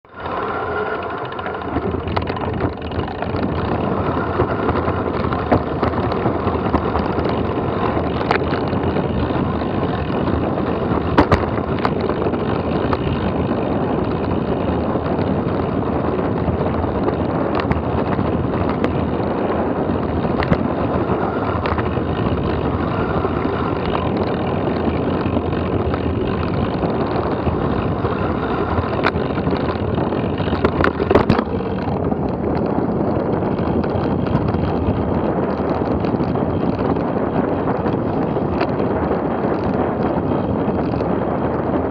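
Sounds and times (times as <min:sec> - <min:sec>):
wind over microphone: 0:00.0 - 0:41.9
rattling clicks and knocks: 0:00.2 - 0:37.1.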